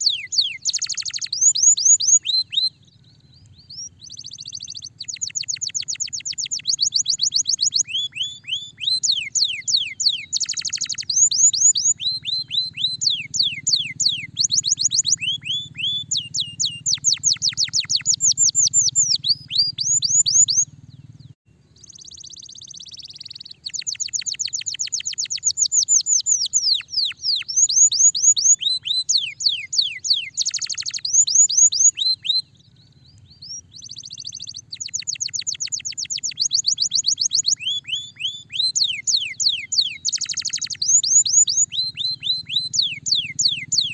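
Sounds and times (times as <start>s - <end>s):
canary singing trills: 0.0s - 43.9s.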